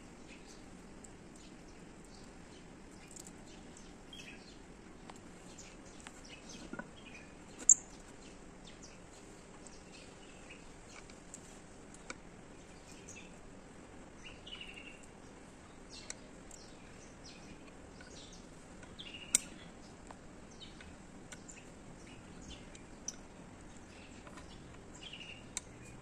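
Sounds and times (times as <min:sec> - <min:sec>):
birds chirping: 0:00.0 - 0:26.0
faint background hum: 0:00.0 - 0:26.0.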